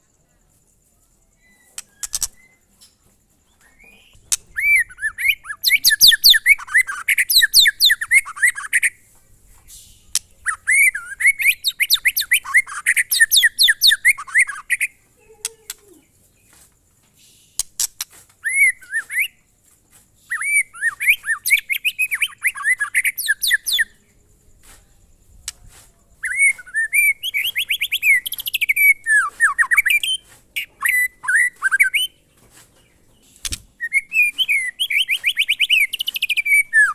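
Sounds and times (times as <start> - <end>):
songbird whistling song: 1.1 - 36.9.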